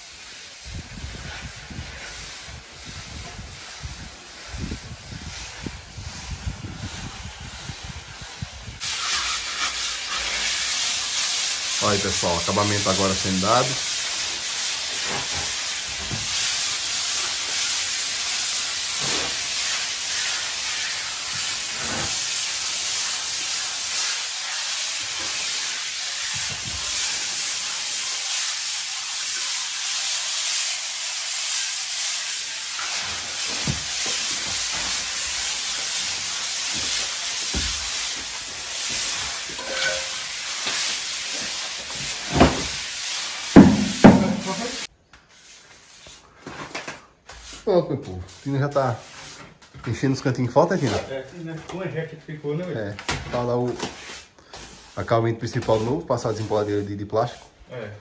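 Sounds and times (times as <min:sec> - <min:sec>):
float scraping cement render: 0:00.1 - 0:58.0.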